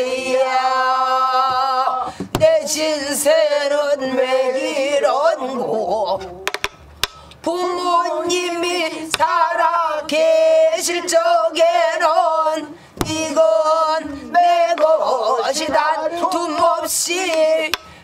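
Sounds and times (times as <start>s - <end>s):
person singing with wide vibrato: 0.0s - 6.6s, 7.2s - 18.0s.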